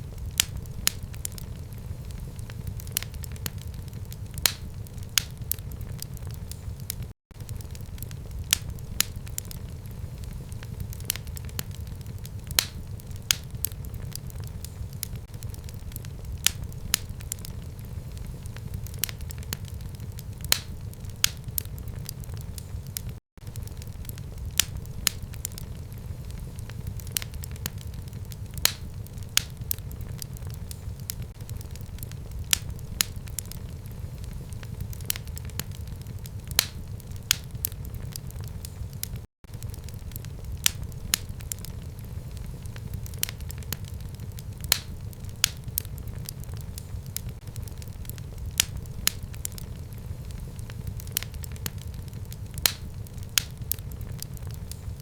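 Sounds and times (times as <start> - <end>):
fire rumbling: 0.0 - 55.0
logs crackling and popping: 0.0 - 55.0.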